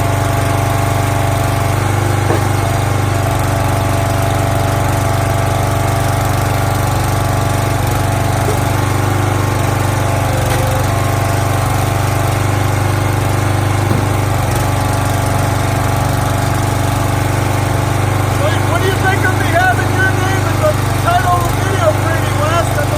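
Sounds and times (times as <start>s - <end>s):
small gasoline engine running: 0.0s - 22.9s.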